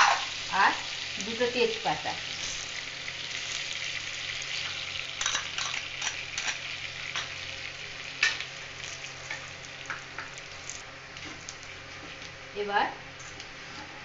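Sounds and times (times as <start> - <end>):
crackles and pops of frying: 0.0 - 13.6
spices sizzling in hot oil: 0.0 - 13.7.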